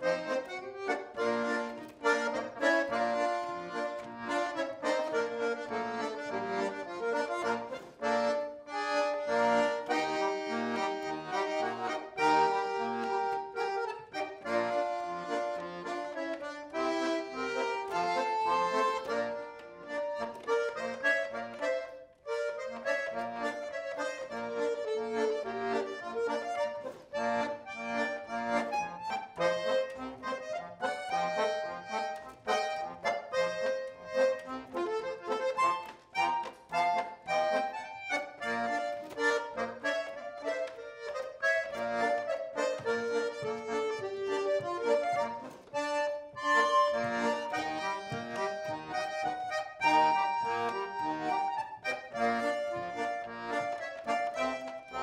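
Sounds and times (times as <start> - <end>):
concertina playing: 0.0 - 55.0.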